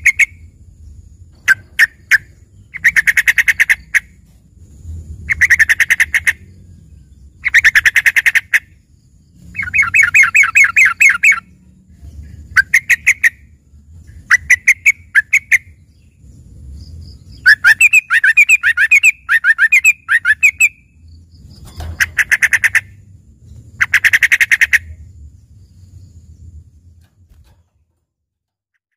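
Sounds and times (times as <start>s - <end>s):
bird singing trilled phrases: 0.0s - 4.2s, 5.2s - 26.8s.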